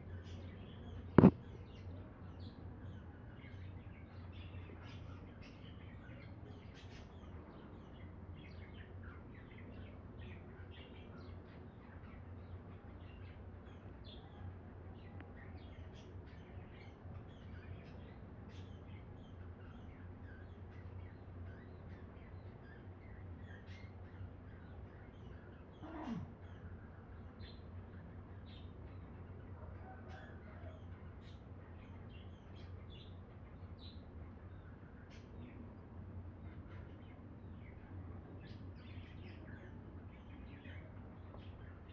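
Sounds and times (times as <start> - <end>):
low steady hum: 0.0 - 41.9
small birds chirping: 0.0 - 41.9.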